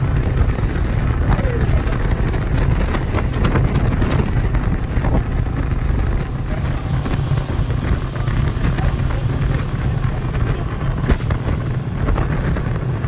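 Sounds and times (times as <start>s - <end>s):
vehicle rumble: 0.0s - 13.0s
wind buffeting microphone: 0.0s - 13.0s.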